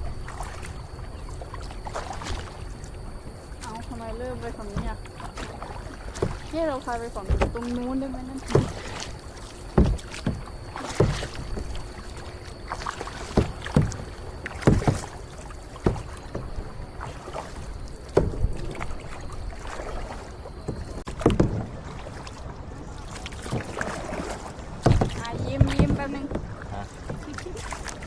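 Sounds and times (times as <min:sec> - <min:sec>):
low background wash: 0:00.0 - 0:28.0
paddle splashes and thumps: 0:00.0 - 0:28.0.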